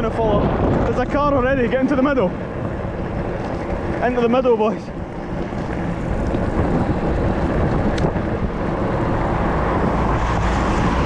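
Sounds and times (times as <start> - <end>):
small wheels rolling on wet road: 0.0 - 11.0
wind buffeting microphone: 0.0 - 11.0.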